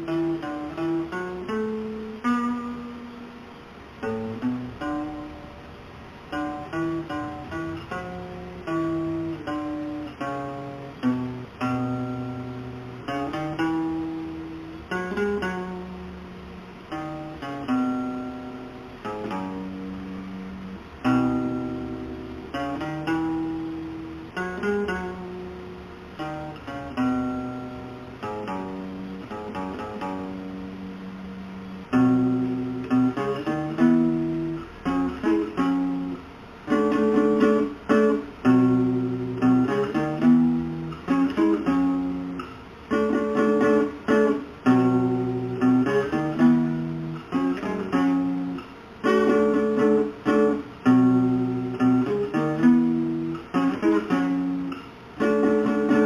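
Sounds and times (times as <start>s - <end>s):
nylon-string guitar melody: 0.0s - 56.0s.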